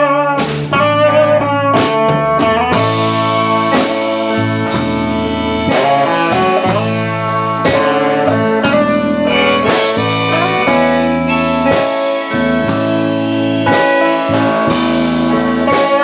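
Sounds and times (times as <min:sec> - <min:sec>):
bass: 0:00.0 - 0:16.0
guitar: 0:00.0 - 0:16.0.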